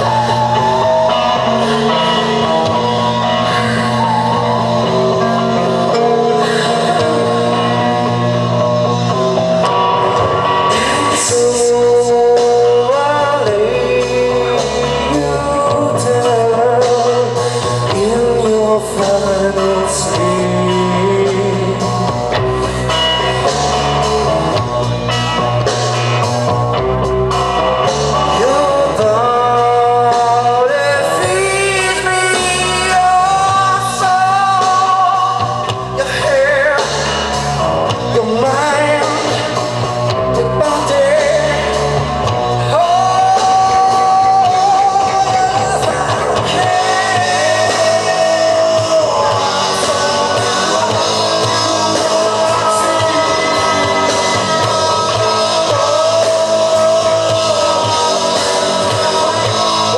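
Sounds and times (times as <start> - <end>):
person singing: 0.0 - 26.4, 27.4 - 59.9
drum kit: 0.0 - 59.9
electric guitars: 0.0 - 59.9.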